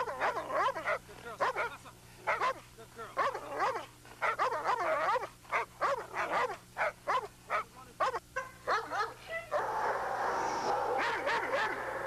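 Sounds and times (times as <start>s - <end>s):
dog barking: 0.0s - 10.0s, 10.7s - 12.0s.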